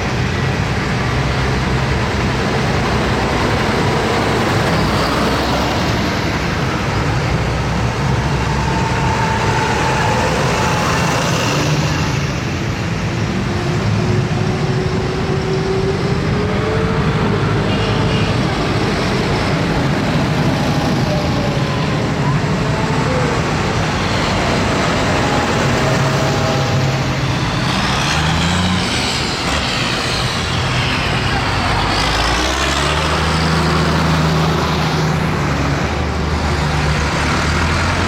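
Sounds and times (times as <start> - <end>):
tractor engines running: 0.0 - 38.0.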